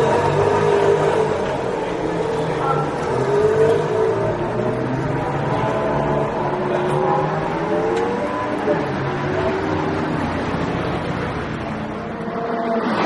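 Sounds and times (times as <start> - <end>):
car engines running: 0.0 - 13.0.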